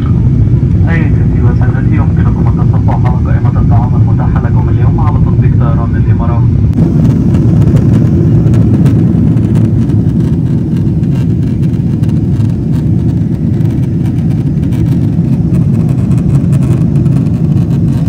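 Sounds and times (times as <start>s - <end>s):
jet engine cabin rumble: 0.0s - 18.0s.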